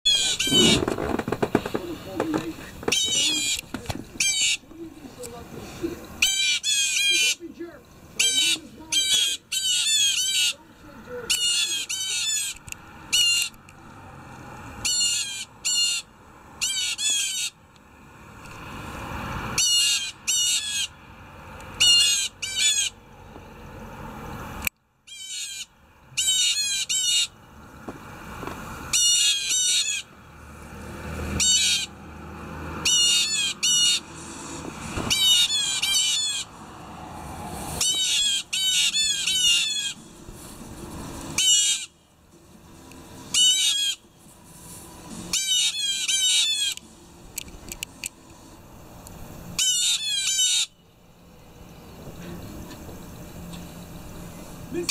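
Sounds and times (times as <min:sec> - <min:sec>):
blue jays calling: 0:00.1 - 0:13.9, 0:14.8 - 0:17.6, 0:19.4 - 0:21.0, 0:21.7 - 0:23.0, 0:25.1 - 0:27.4, 0:28.8 - 0:30.1, 0:31.1 - 0:42.1, 0:42.9 - 0:44.1, 0:45.0 - 0:48.0, 0:48.9 - 0:54.9.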